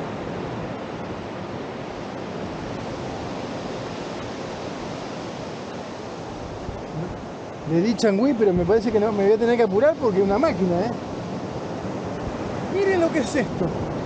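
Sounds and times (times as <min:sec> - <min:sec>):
sea surf rushing: 0:00.0 - 0:14.0.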